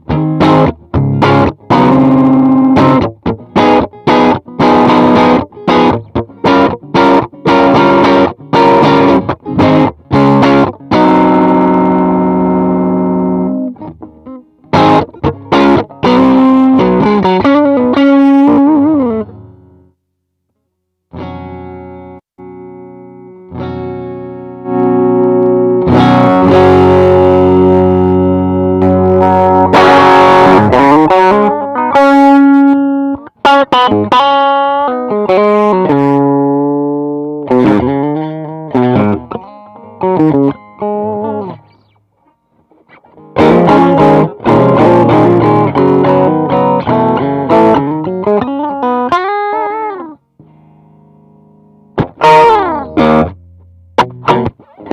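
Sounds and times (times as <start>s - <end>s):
overdriven electric guitar: 0.0s - 20.0s, 21.1s - 54.9s.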